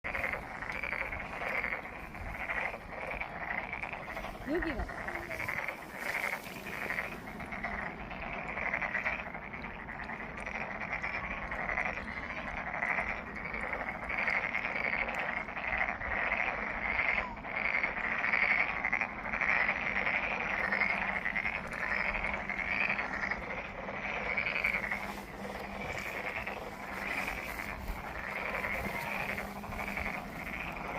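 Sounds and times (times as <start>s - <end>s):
chorus of frogs croaking: 0.0s - 30.9s.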